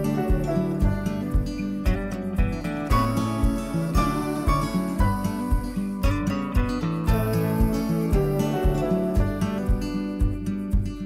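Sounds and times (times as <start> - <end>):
guitar over steady beat: 0.0 - 11.0.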